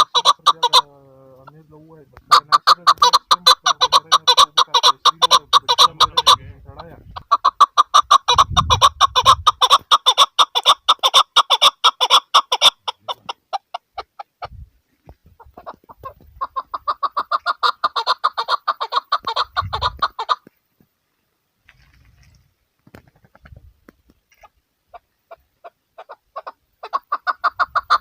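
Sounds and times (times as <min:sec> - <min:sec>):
partridge clucking calls: 0:00.0 - 0:20.6, 0:21.6 - 0:28.0.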